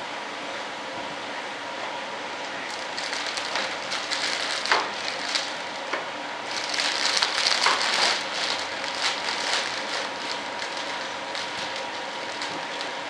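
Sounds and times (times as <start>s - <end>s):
vacuum pump humming: 0.0s - 13.0s
plastic film crinkling: 2.5s - 13.0s.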